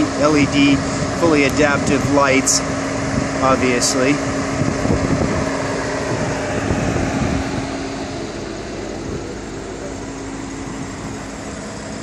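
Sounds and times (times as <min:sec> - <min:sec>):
steady mechanical hum: 0:00.0 - 0:12.0
uneven low rumble: 0:00.9 - 0:11.9.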